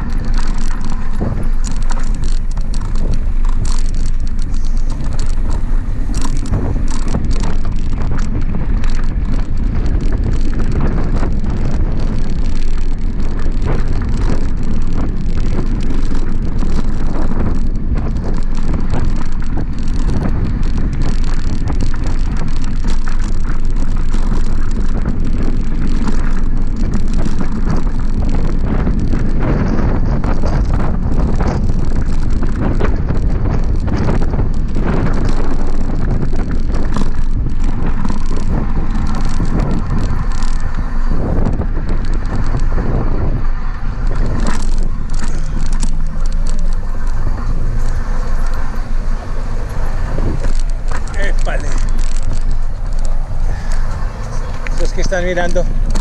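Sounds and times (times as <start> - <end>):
bike knocks and rattles: 0.0 - 56.0
tyres rolling over dirt: 0.0 - 56.0
wind rushing over microphone: 0.0 - 56.0.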